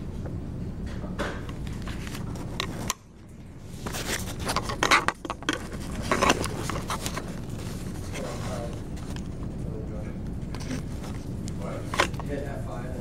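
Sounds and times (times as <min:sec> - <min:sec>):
low room hum: 0:00.0 - 0:13.0
rustling and scraping handling noises: 0:01.4 - 0:13.0.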